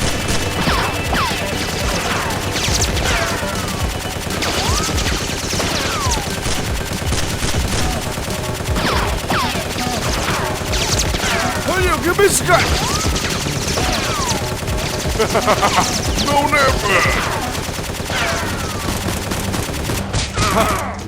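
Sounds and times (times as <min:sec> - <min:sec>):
machine-gun fire: 0:00.0 - 0:20.8.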